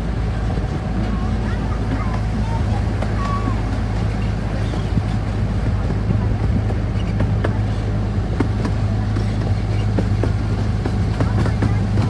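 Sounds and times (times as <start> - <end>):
light clicks from moving train: 0.0 - 12.0
locomotive running with low hum: 0.0 - 12.0.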